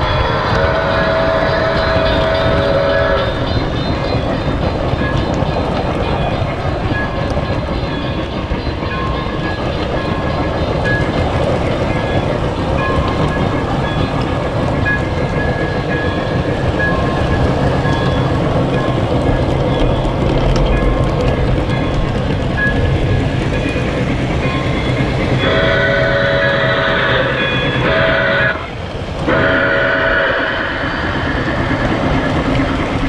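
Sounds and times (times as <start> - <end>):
model train running on track: 0.0 - 33.0.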